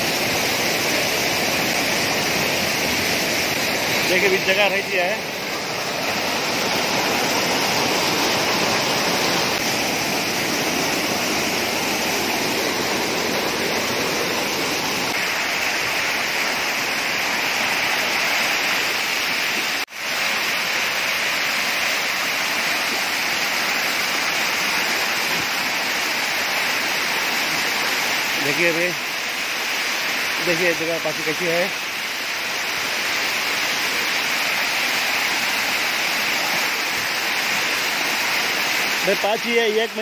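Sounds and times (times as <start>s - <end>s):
water rushing over rocks: 0.0s - 40.0s.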